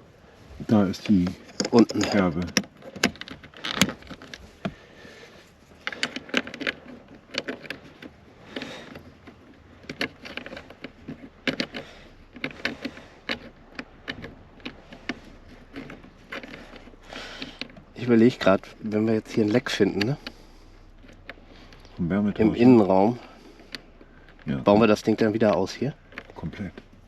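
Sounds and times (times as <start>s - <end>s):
plastic parts clicking and knocking: 0.9s - 27.0s.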